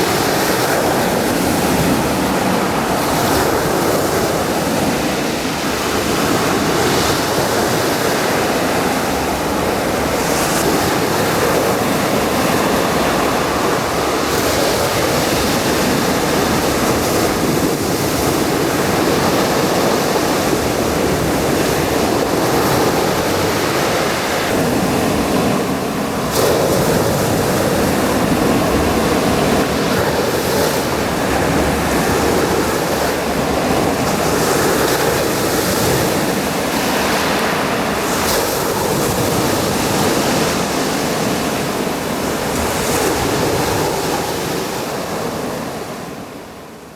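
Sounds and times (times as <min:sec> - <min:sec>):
waves washing onto beach: 0:00.0 - 0:46.9.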